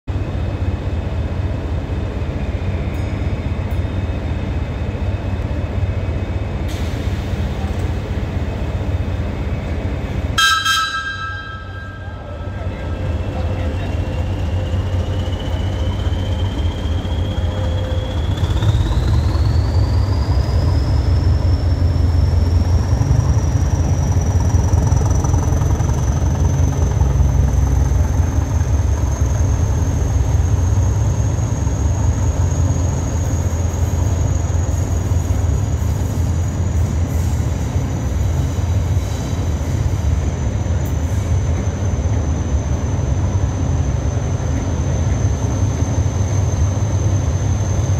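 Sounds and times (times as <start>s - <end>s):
diesel engine low rumble: 0.0s - 47.9s
rising high whine of train: 0.0s - 47.9s.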